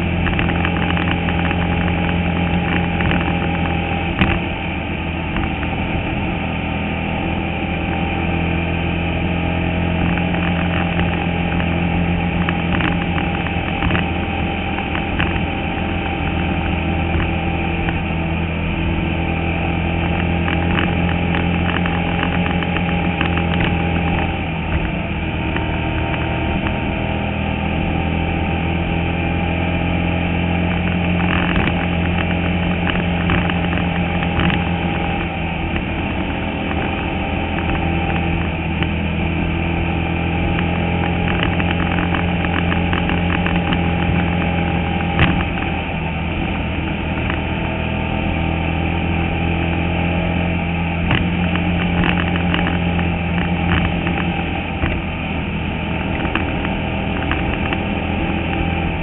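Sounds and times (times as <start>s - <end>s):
car rattles: 0.0s - 6.4s, 9.7s - 26.9s, 30.4s - 47.5s, 50.8s - 59.0s
race car engine running hard: 0.0s - 59.0s.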